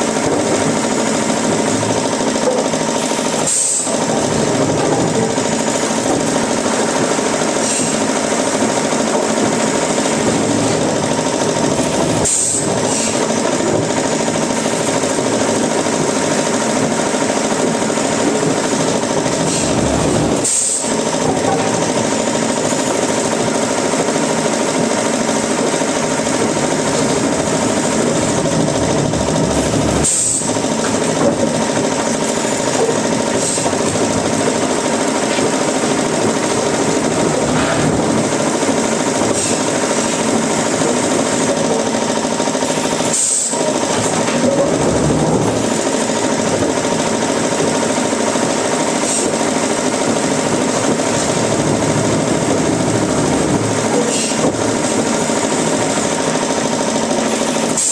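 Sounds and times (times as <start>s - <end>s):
woodworking machinery running: 0.0s - 57.9s.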